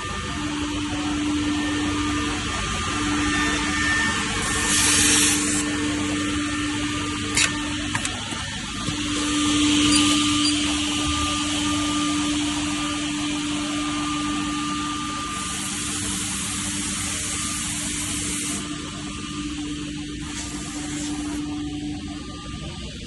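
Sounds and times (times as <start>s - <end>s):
machine motor hum with hiss: 0.0s - 23.0s.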